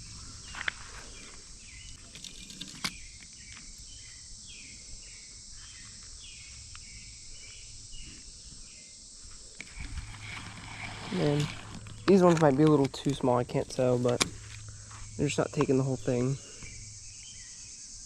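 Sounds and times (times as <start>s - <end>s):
high insect hum: 0.0s - 18.0s.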